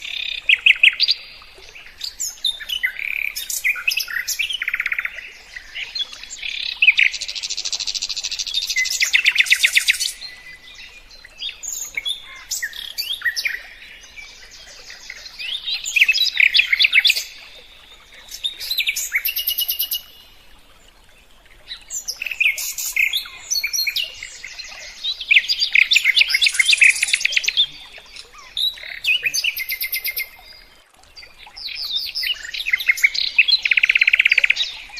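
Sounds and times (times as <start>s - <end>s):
songbird singing chirps and trills: 0.0s - 34.9s.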